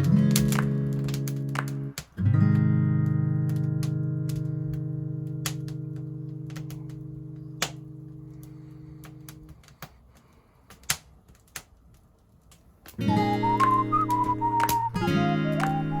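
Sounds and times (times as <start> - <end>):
sharp crackles and pops: 0.0 - 16.0.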